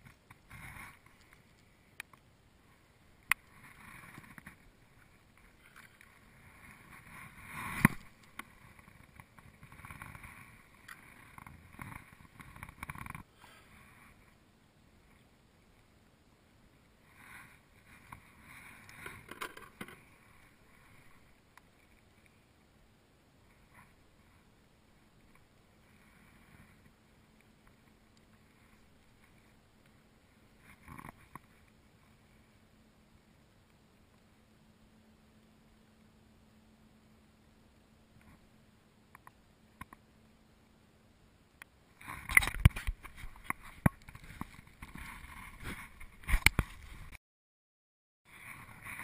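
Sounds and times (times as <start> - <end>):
faint background hiss: 0.0 - 47.1.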